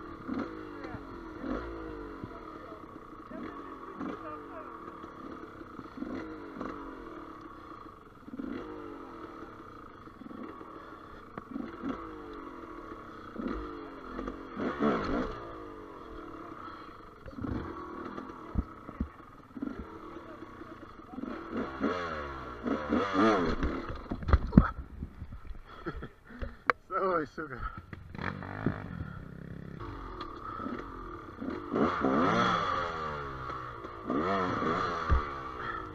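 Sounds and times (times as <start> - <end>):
motorcycle engine revving in bursts: 0.0 - 24.8, 27.6 - 35.9.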